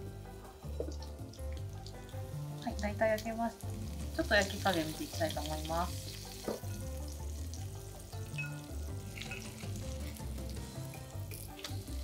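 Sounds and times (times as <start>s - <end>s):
background music with bass line: 0.0s - 12.0s
food sizzling in a pan: 0.4s - 12.0s.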